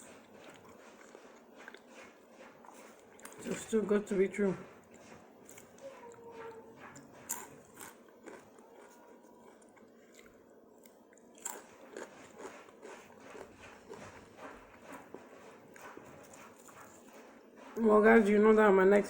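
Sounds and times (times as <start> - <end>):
person chewing crunchy food: 0.0 - 3.6, 4.6 - 17.8.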